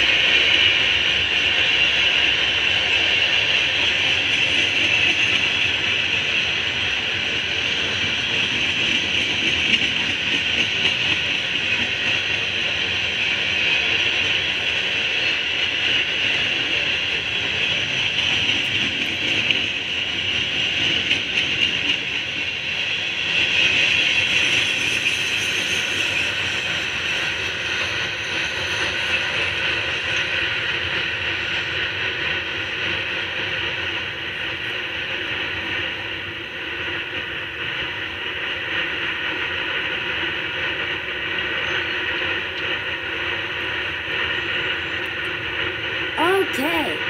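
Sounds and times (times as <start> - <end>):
freight train wheels rolling on rail: 0.0 - 45.0.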